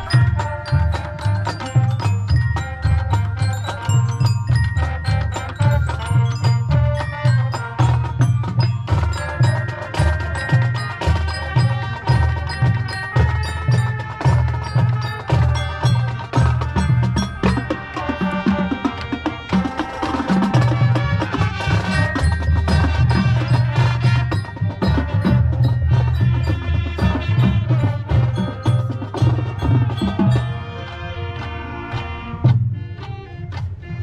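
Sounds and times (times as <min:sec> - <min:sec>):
marching band playing: 0:00.0 - 0:34.0.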